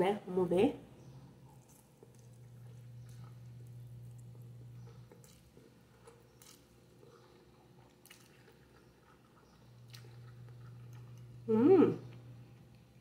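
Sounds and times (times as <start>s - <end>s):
steady low hum: 0.0s - 13.0s
faint chewing: 1.4s - 13.0s.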